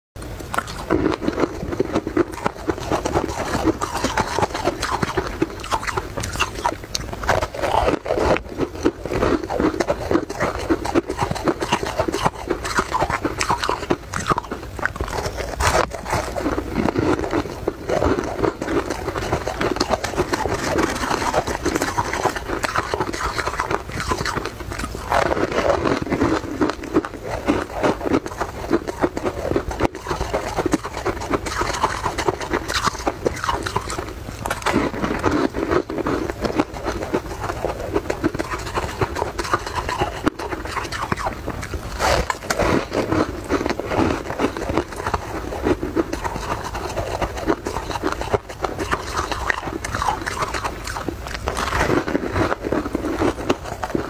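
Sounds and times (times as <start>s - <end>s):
person crunching crisp food: 0.2s - 54.0s.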